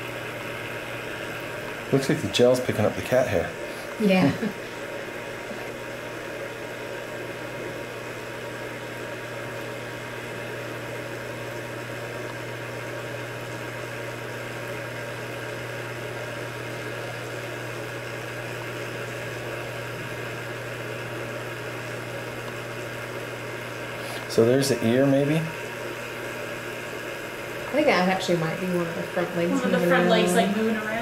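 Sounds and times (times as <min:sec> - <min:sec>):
machine hum with hiss: 0:00.0 - 0:31.0.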